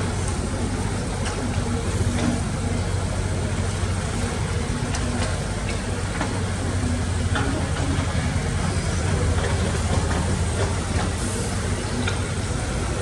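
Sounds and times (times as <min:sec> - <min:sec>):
heavy diesel engine humming: 0:00.0 - 0:13.0.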